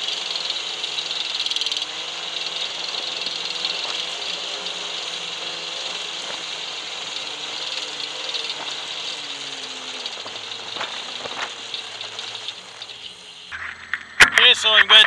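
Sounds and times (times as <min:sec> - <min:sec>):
snow groomer engine drone: 0:00.0 - 0:13.5.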